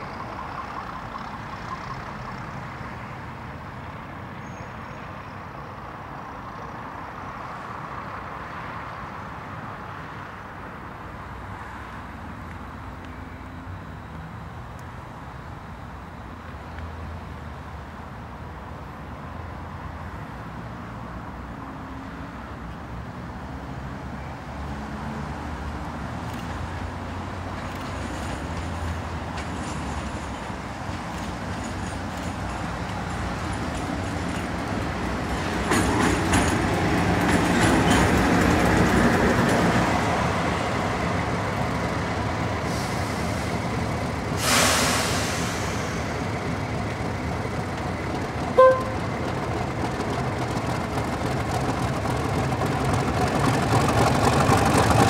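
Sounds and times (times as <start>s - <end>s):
diesel locomotive engines running: 0.0s - 24.6s, 25.3s - 55.0s.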